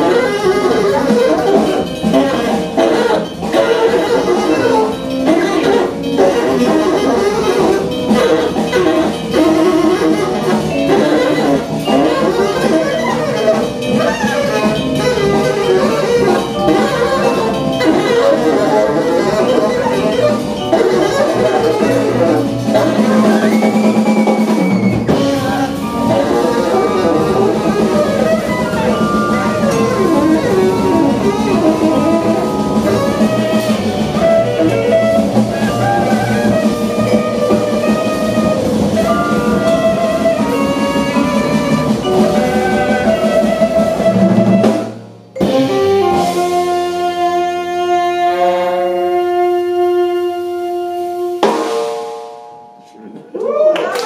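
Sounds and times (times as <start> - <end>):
saxophone: 0.0 - 51.6
drums: 0.0 - 54.0
vibraphone: 0.6 - 44.8, 45.4 - 47.3, 51.4 - 53.1.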